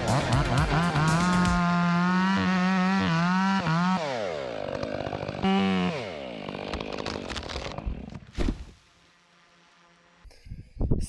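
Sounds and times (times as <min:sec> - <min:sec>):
chainsaw revving: 0:00.0 - 0:10.2.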